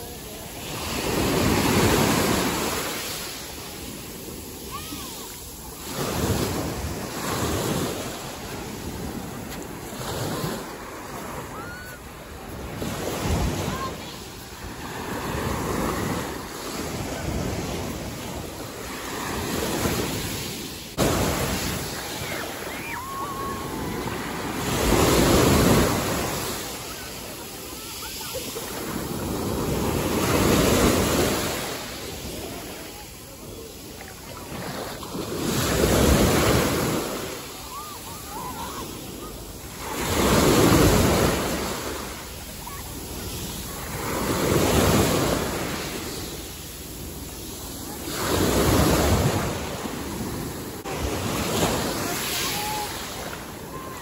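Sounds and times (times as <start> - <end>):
sea waves washing onto beach: 0.0 - 54.0.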